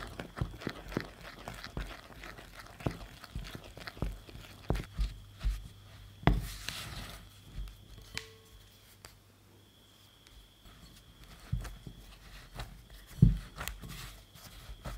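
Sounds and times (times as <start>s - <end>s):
spoon stirring dough: 0.0s - 9.0s, 10.7s - 14.9s.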